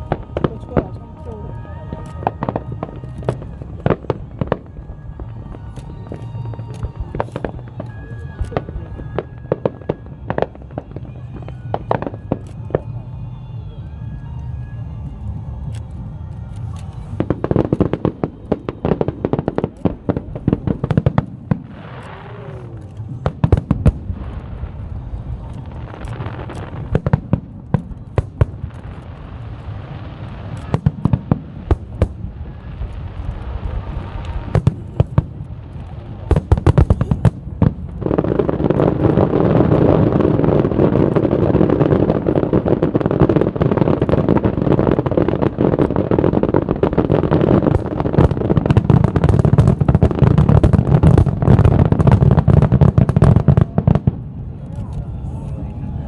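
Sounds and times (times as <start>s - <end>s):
fireworks bangs and pops: 0.0s - 13.3s, 14.4s - 55.6s
firecrackers crackling: 0.0s - 56.0s.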